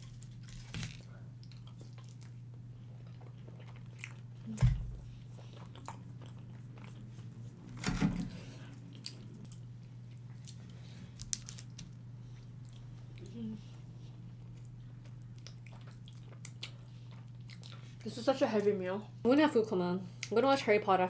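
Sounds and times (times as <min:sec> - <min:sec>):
chewing pizza: 0:00.0 - 0:18.6
steady low hum: 0:00.0 - 0:21.0.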